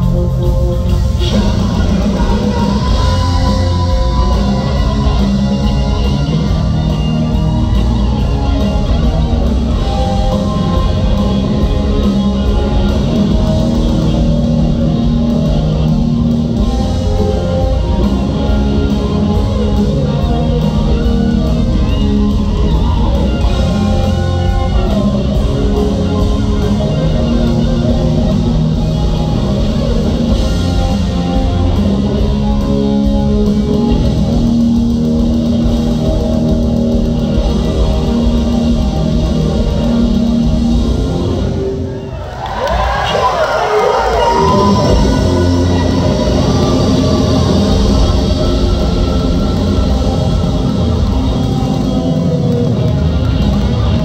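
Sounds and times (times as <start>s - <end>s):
live hard rock band: 0.0s - 54.0s.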